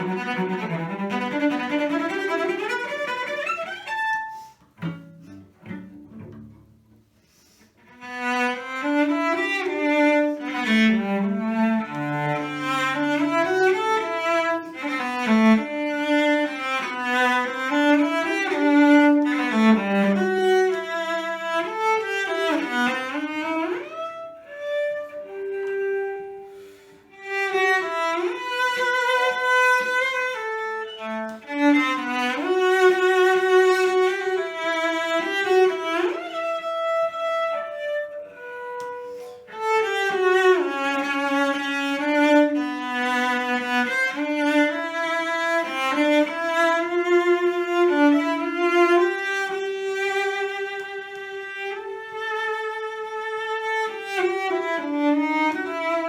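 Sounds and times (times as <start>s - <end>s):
bowed string solo melody: 0.0s - 7.2s, 7.8s - 56.0s.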